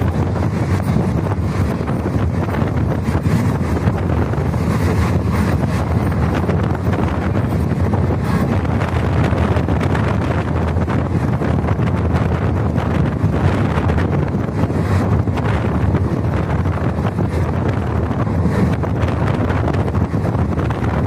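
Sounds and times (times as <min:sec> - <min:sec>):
train rumble: 0:00.0 - 0:21.0
wind on microphone: 0:00.0 - 0:21.0.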